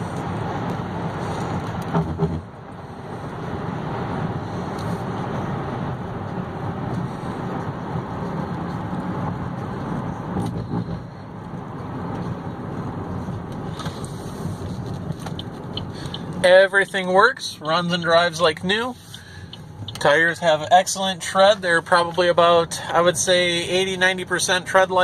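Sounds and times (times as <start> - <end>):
diesel engine rumble: 0.0 - 25.0.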